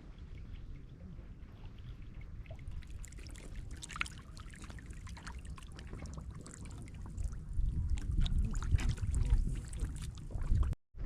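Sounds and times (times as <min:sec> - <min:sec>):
shallow water splashing: 0:00.0 - 0:10.8.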